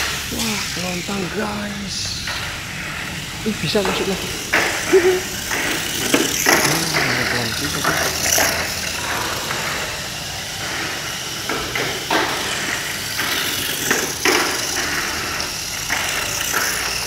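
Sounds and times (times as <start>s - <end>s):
small electric motor whirring: 0.0s - 17.0s
toy car clacking on track walls: 0.0s - 17.0s.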